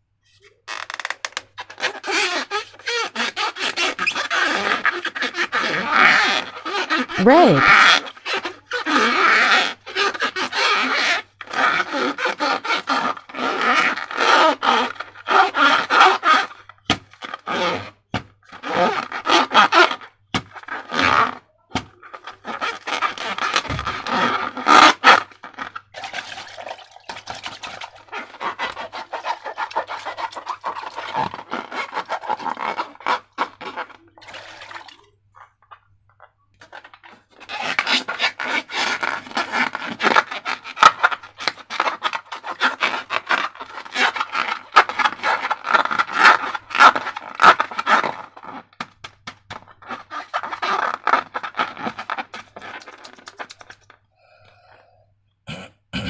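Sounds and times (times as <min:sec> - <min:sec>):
hands rubbing slime and balloons: 0:01.8 - 0:35.9, 0:36.6 - 0:54.4.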